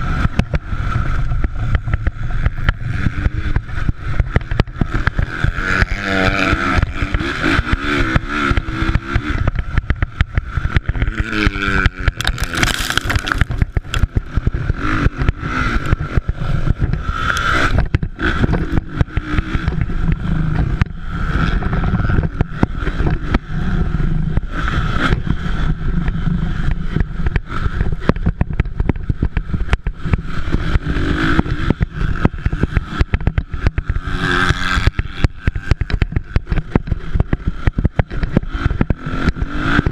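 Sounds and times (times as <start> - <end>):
dirt bike engines revving: 0.0 - 39.9
rough noisy background: 0.0 - 39.9.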